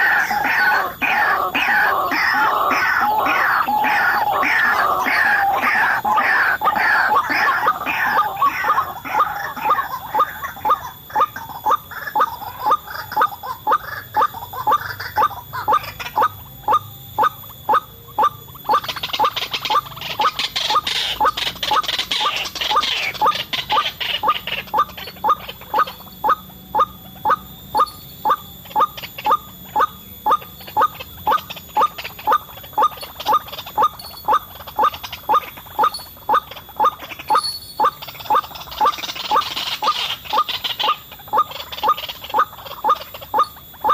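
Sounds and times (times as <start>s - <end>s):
high chirring: 0.0s - 43.9s
waterhen calling: 0.0s - 43.9s.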